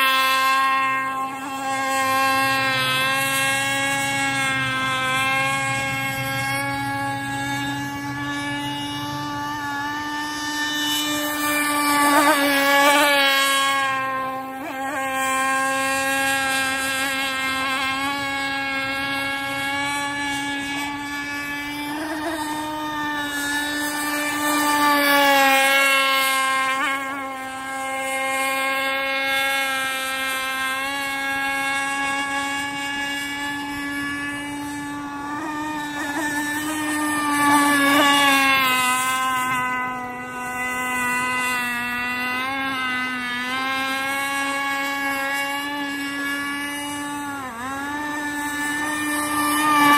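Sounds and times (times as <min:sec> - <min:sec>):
speedboat engine buzzing: 0:00.0 - 0:49.9.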